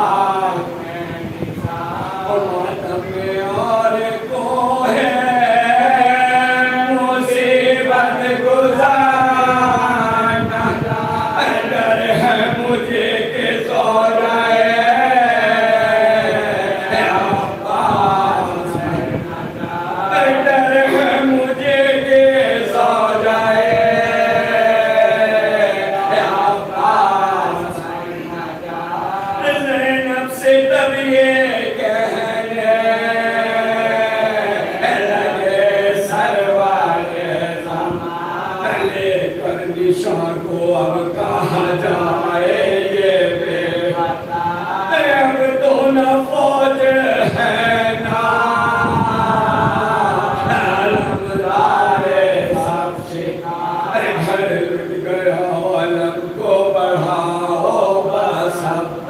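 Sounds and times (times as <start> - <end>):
men chanting unaccompanied: 0.0 - 59.0.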